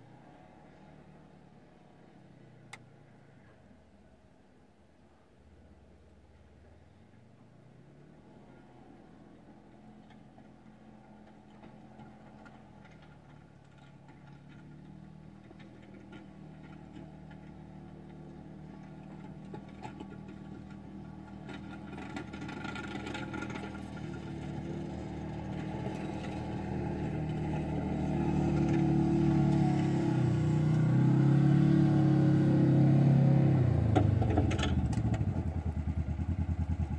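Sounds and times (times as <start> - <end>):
utility vehicle engine driving: 5.5 - 36.9.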